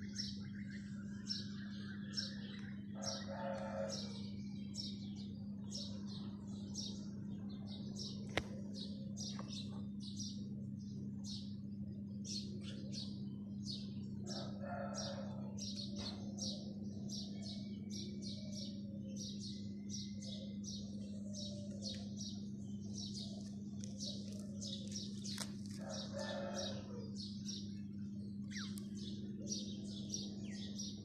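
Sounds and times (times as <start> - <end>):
low hum: 0.0 - 31.0
small birds chirping: 0.0 - 31.0.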